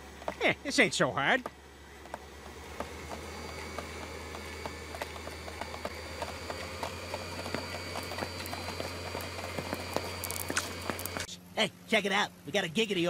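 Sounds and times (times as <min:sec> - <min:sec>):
conveyor machinery humming: 0:00.0 - 0:13.0
faint machine whine: 0:00.0 - 0:13.0.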